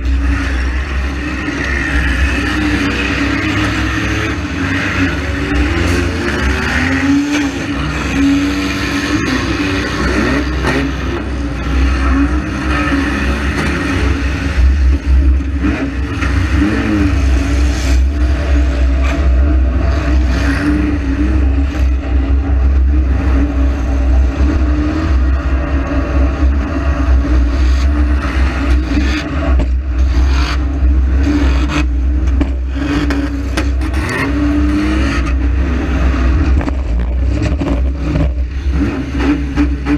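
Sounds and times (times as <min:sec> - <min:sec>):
car engine revving: 0:00.0 - 0:39.9
heavy low rumble: 0:00.0 - 0:39.9.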